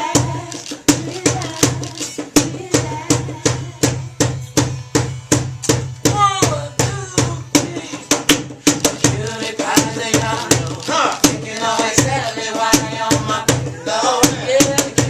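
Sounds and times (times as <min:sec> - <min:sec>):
drums playing a steady beat: 0:00.0 - 0:15.0.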